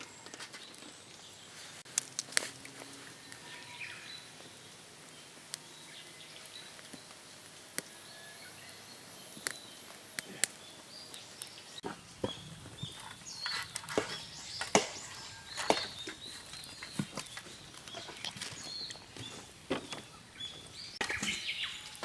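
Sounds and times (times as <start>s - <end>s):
campfire crackling and popping: 1.8s - 22.0s.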